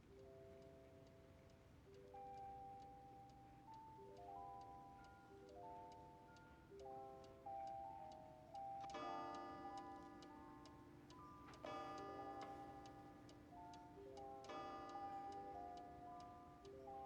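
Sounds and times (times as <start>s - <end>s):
slow chiming melody: 0.0s - 17.0s
clock-like ticking: 0.1s - 17.0s.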